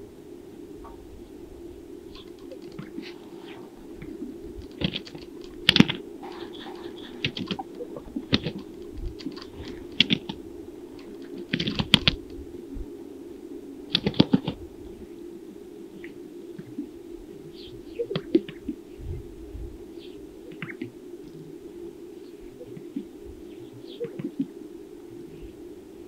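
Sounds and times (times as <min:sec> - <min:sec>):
steady low background: 0:00.0 - 0:26.0.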